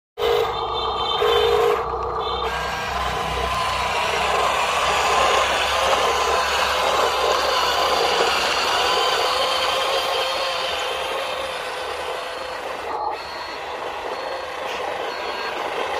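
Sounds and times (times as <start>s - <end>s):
toy truck motor whine: 0.2s - 15.9s.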